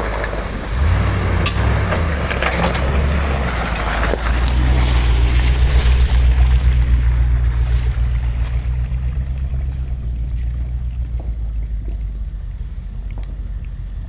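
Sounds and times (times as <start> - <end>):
engine deep rumble: 0.0 - 14.0.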